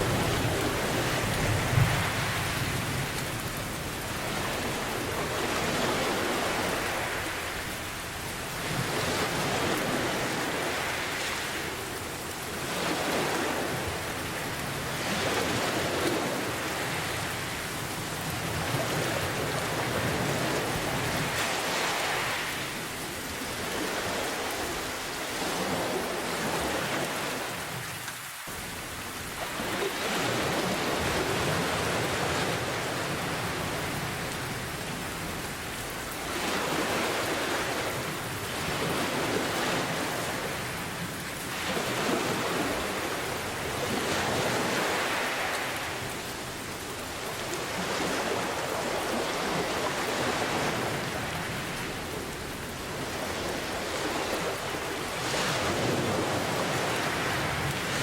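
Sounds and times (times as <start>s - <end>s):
heavy rain: 0.0s - 58.0s
ocean waves surging: 0.0s - 58.0s.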